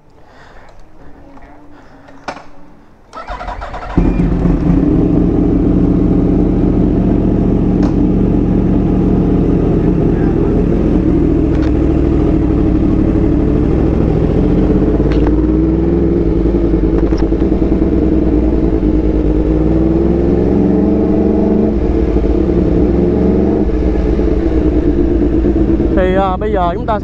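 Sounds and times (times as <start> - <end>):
motorcycle engine revving: 3.1 - 27.0.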